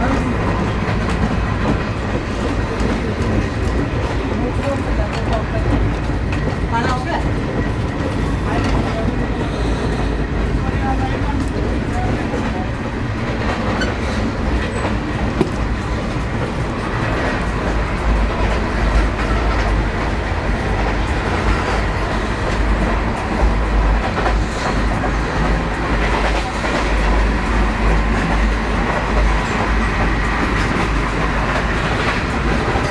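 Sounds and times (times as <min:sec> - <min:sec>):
train coach low rumble: 0:00.0 - 0:32.9
wheels clicking on track: 0:00.0 - 0:32.9.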